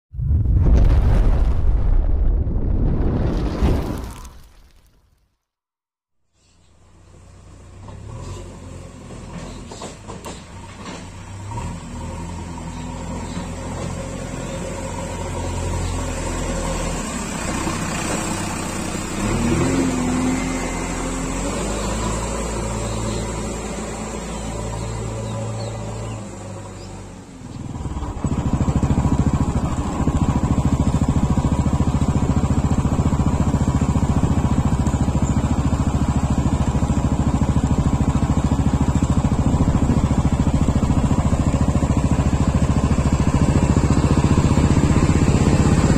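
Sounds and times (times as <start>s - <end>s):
backhoe diesel engine running: 6.5s - 45.9s.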